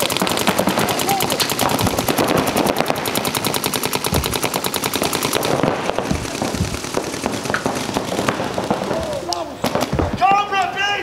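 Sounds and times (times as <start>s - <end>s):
paintball markers firing: 0.0s - 10.1s.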